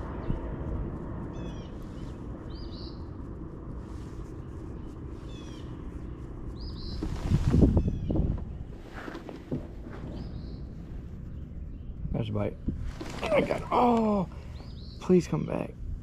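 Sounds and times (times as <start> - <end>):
low rumble: 0.0 - 15.0
steady low outdoor rush: 0.0 - 16.0
birds chirping: 1.2 - 15.8.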